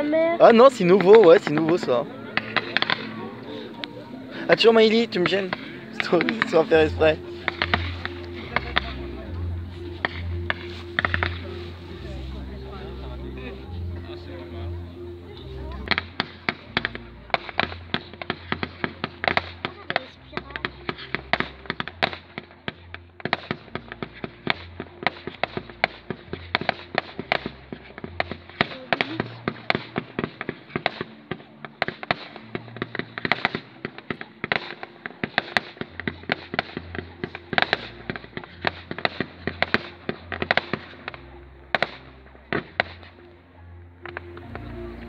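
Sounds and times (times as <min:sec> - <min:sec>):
fireworks bursting: 0:00.0 - 0:13.8, 0:15.7 - 0:43.3
music: 0:00.0 - 0:45.0.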